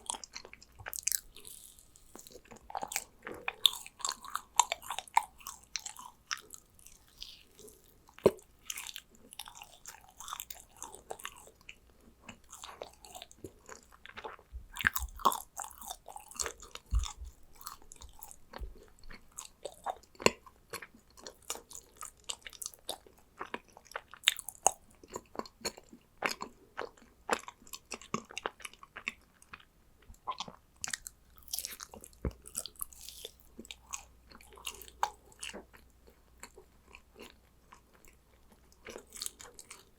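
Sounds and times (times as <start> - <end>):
sticky crackly chewing: 0.0 - 39.9.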